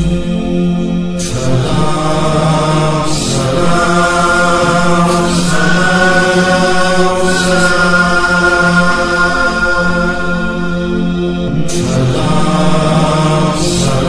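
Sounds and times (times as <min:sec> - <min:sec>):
wordless chorus drone: 0:00.0 - 0:14.0.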